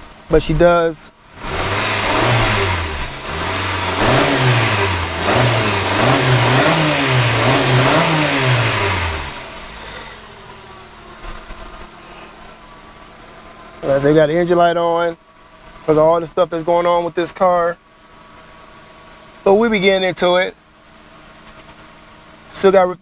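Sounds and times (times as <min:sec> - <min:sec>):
car engine revving and idling: 0:00.0 - 0:22.7.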